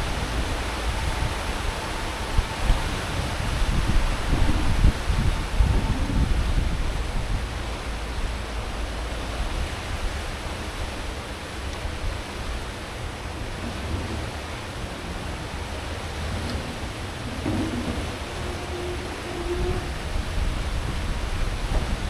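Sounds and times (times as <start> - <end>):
deep hum of ship engines: 0.0 - 22.0
ship wake rushing: 0.0 - 22.0.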